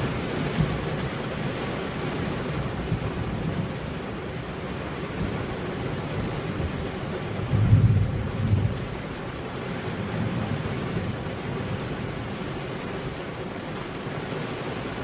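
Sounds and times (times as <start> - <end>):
heavy rain on road: 0.0 - 15.0.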